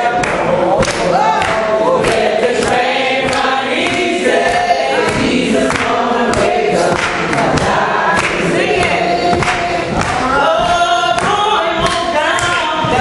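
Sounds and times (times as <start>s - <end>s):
congregation singing gospel song: 0.0s - 13.0s
percussive hits on the beat: 0.0s - 13.0s.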